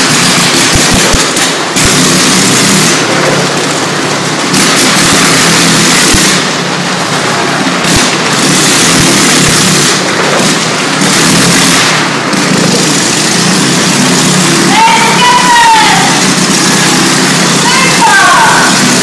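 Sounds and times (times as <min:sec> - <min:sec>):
motorcycle engine running hard: 0:00.0 - 0:19.0.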